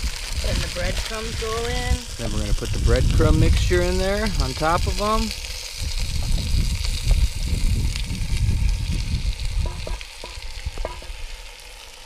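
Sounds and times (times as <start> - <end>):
low rumble: 0.0 - 10.8
meat sizzling in oil: 0.0 - 12.0.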